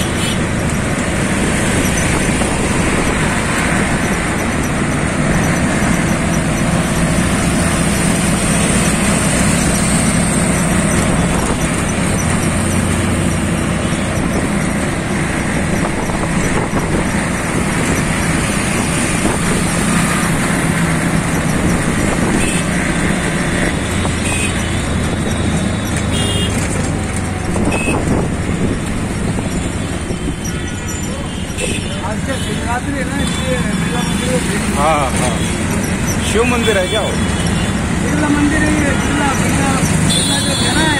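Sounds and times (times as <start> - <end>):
vehicle engine hum and road noise: 0.0 - 40.9.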